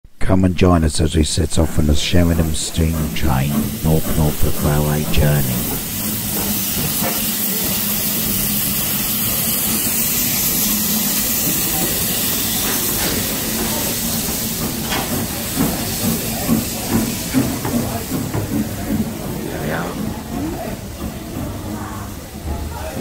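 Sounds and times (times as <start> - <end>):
steam locomotive hissing steam: 1.1 - 23.0.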